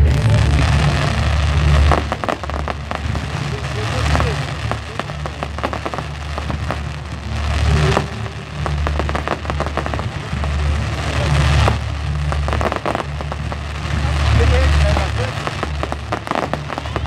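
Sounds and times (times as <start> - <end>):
fireworks crackling: 0.0 - 17.0
low rumble: 0.0 - 17.0.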